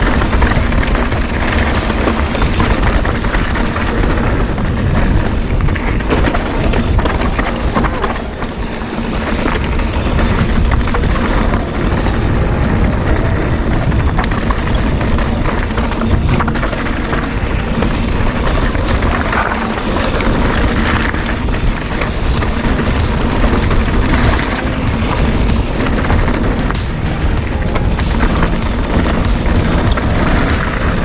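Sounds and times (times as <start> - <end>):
bike clattering over bumps: 0.0 - 31.0
bike tyre noise: 0.0 - 31.0
wind buffeting microphone: 0.0 - 31.0.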